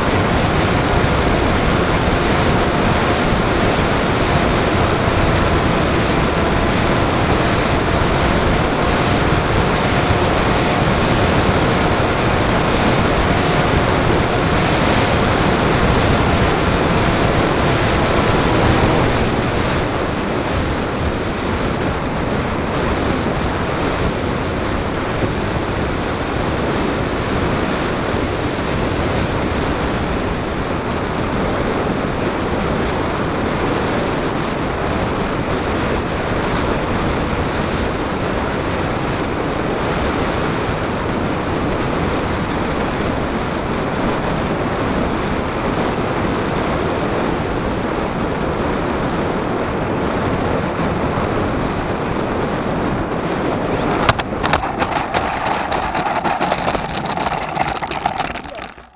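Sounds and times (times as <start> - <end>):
propeller noise: 0.0 - 58.9.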